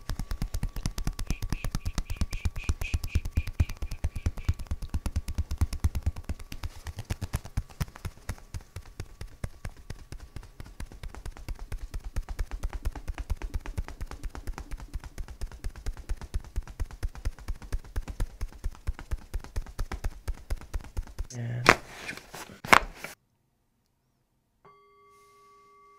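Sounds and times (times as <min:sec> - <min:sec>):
hands patting bare back: 0:00.0 - 0:23.2.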